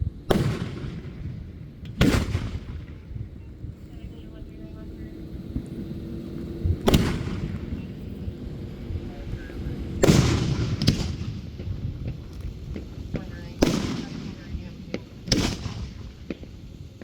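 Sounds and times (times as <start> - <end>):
fireworks booming: 0.0 - 17.0
fireworks cracks: 0.0 - 17.0
steady low rumble: 0.0 - 17.0.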